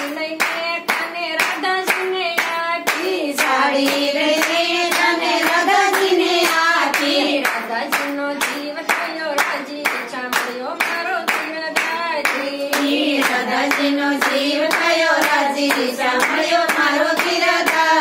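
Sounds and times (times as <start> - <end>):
hand claps: 0.0 - 18.0
women singing devotional song: 0.0 - 18.0.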